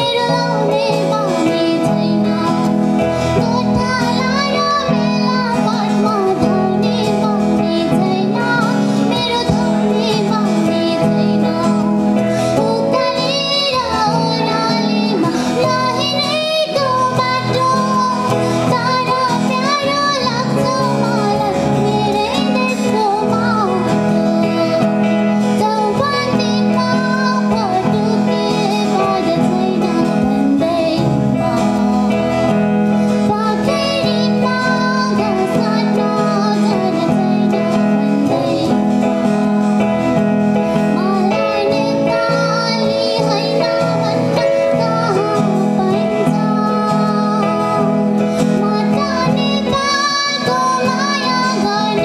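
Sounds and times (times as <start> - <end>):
high voice singing: 0.0 - 52.0
instrumental accompaniment: 0.0 - 52.0.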